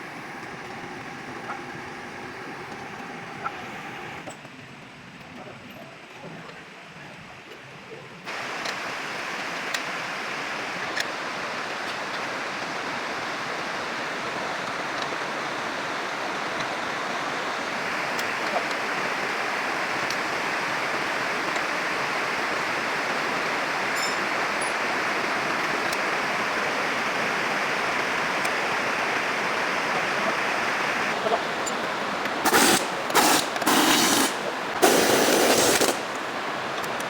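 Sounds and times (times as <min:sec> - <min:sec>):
steady rushing hiss: 0:00.0 - 0:04.2, 0:08.3 - 0:37.0.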